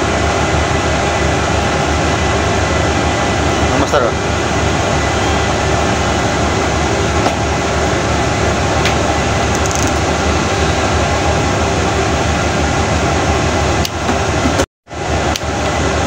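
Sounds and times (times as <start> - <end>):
rush of noise: 0.0 - 16.0
ship machinery low hum: 0.0 - 16.0.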